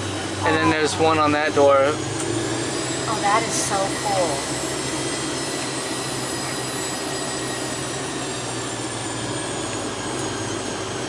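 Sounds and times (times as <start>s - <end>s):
constant high whine: 0.0s - 11.0s
low hum of aircraft systems: 0.0s - 11.0s.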